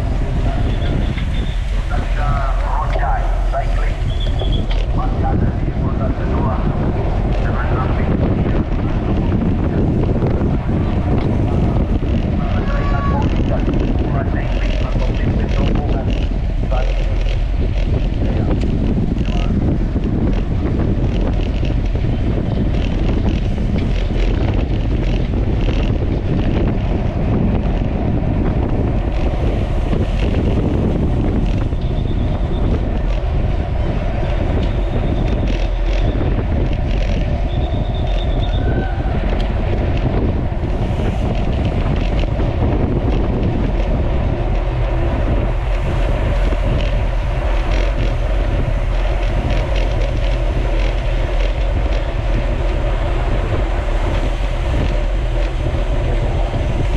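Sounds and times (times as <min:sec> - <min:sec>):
rolling road noise: 0:00.0 - 0:56.9
wind buffeting microphone: 0:00.0 - 0:56.9.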